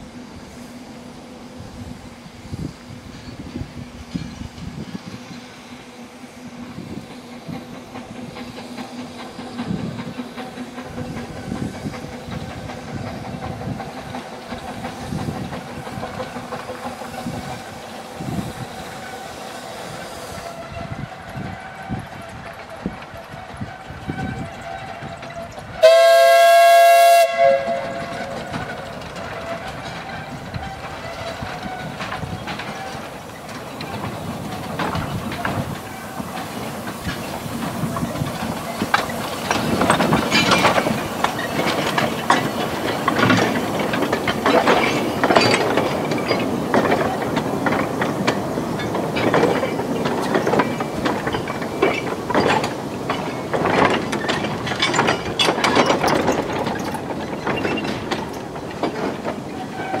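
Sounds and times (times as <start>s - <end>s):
steam train clanking on track: 0.0s - 60.0s.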